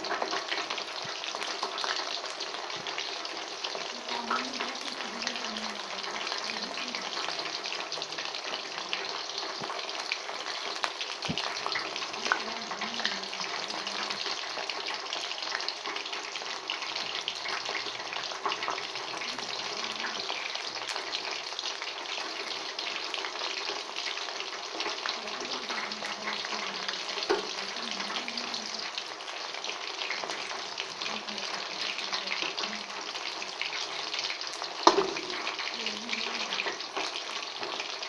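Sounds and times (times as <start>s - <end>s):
oil sizzling and crackling: 0.0s - 38.0s.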